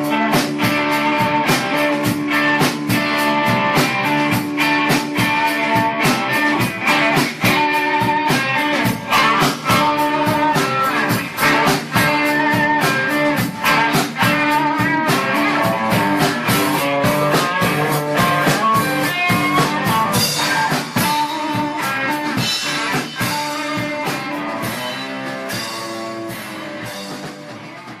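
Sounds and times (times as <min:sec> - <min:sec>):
rock music with guitar and drums: 0:00.0 - 0:28.0.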